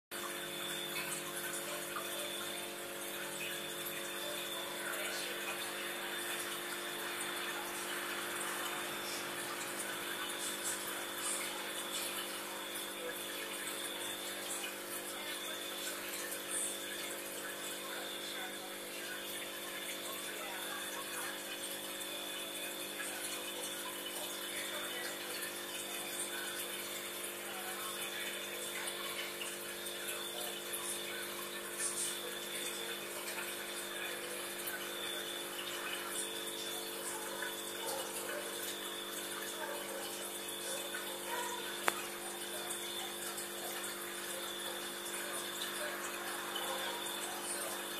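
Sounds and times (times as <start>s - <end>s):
electric pump humming: 0.1s - 47.9s
water bubbling and trickling: 0.1s - 47.9s.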